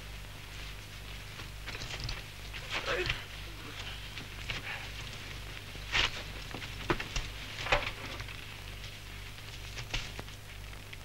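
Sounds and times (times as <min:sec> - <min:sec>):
film soundtrack hum and hiss: 0:00.0 - 0:11.0.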